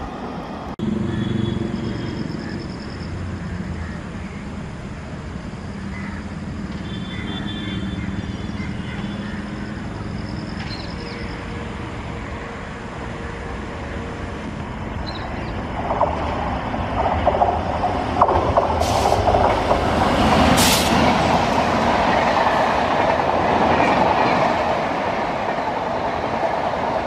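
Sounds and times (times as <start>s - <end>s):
train approaching rumble: 0.0s - 27.0s.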